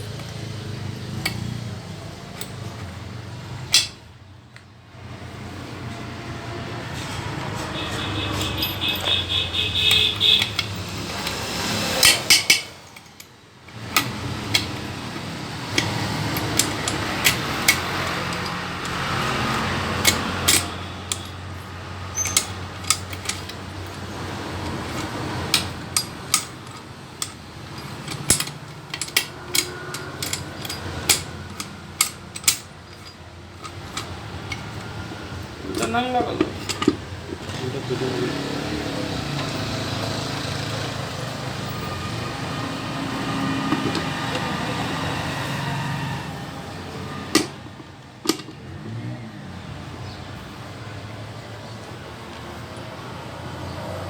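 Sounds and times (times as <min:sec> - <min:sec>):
metal tools clinking: 0:00.0 - 0:04.1, 0:07.8 - 0:49.0.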